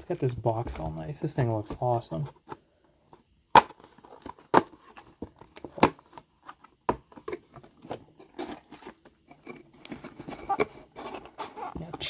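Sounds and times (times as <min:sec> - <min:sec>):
cardboard rustling: 0:00.0 - 0:12.0.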